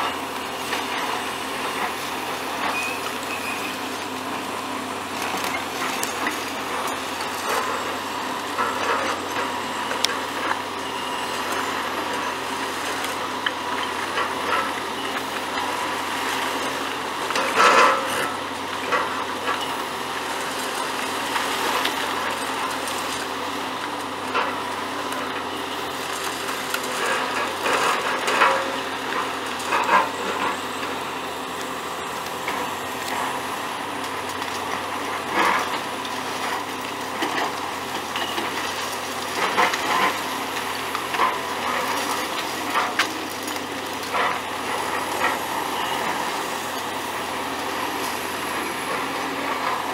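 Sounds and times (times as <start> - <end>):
excavators running: 0.0 - 49.9
concrete debris crunching: 0.1 - 49.9.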